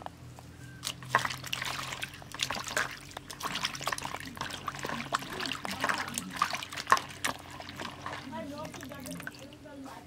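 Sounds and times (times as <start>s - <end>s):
small splashes and trickles: 0.8s - 9.7s
hands swishing leaves in water: 0.8s - 10.0s.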